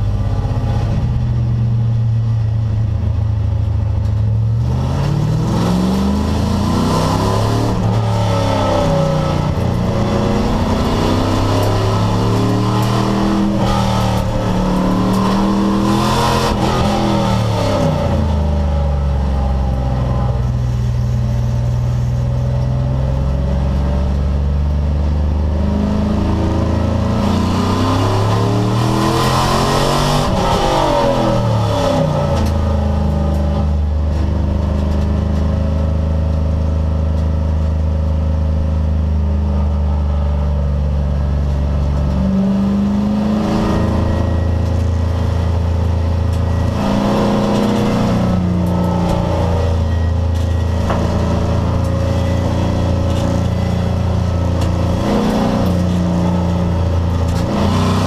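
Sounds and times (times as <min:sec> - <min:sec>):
racing car engine running hard: 0:00.0 - 0:58.0.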